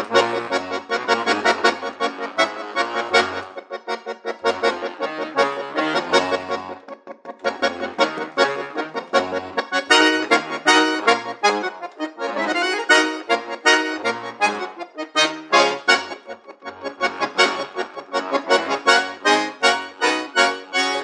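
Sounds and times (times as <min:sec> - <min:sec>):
accordion playing: 0:00.0 - 0:21.0.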